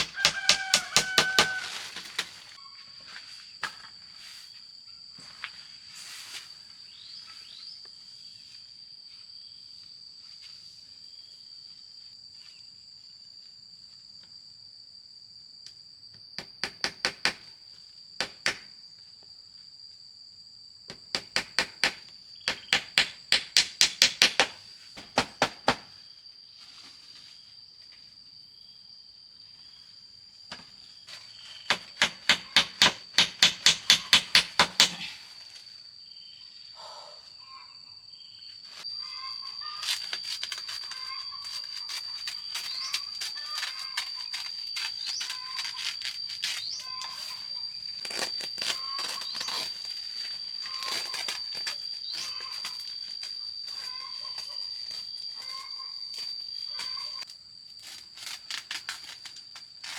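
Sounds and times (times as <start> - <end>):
high-pitched insect drone: 0.0 - 25.2, 25.8 - 59.9.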